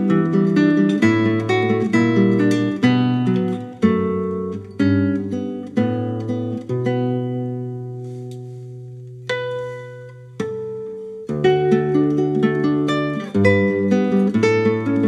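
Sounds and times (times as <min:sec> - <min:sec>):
classical guitar chords: 0:00.0 - 0:15.0.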